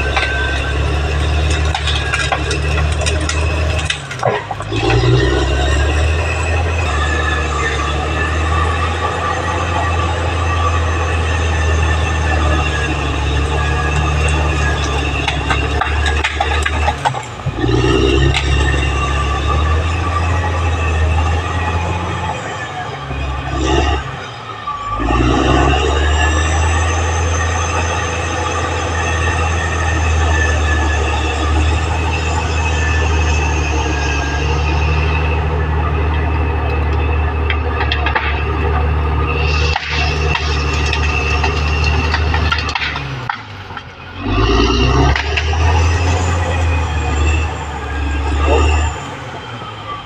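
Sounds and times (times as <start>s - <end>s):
high-pitched squealing: 0.0s - 43.2s, 44.1s - 50.0s
steel tracks clanking: 0.0s - 49.5s
bulldozer diesel engine drone: 0.0s - 50.0s.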